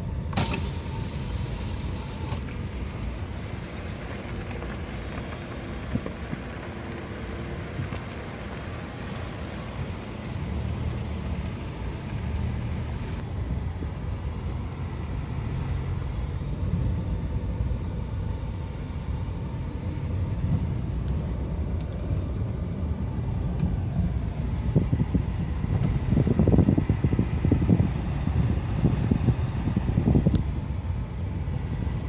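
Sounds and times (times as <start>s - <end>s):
car engine rumble: 0.0s - 32.0s
road noise: 0.0s - 32.0s.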